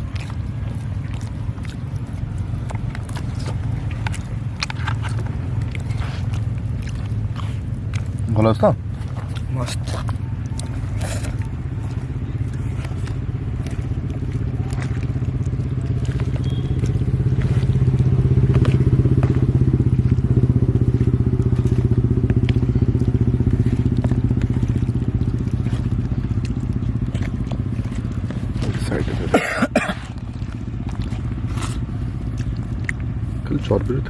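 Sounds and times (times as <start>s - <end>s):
small crunching clicks: 0.0s - 29.3s, 29.9s - 33.9s
engine running with fast pulse: 0.0s - 34.0s.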